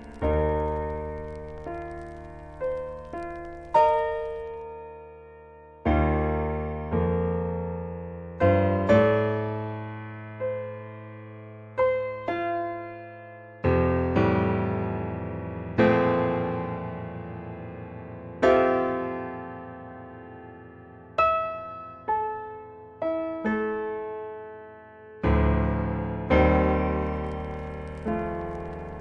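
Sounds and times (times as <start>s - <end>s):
slow piano chords: 0.0s - 29.0s.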